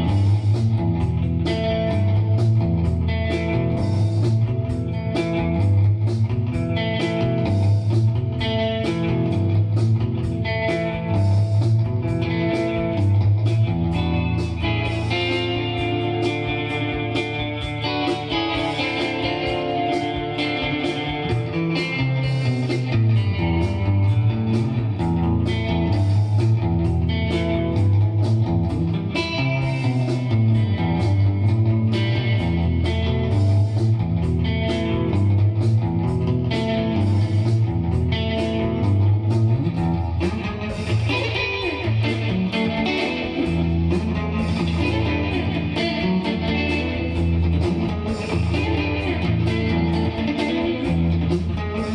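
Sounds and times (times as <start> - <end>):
electric guitar melody: 0.0 - 51.9.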